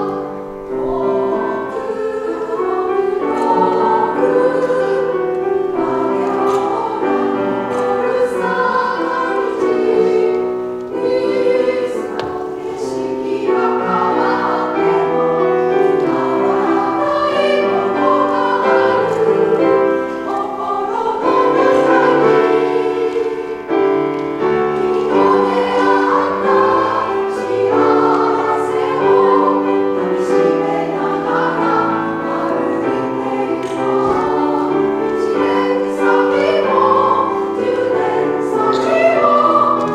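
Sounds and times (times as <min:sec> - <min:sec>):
piano accompaniment: 0:00.0 - 0:39.9
women's choir singing: 0:00.0 - 0:39.9.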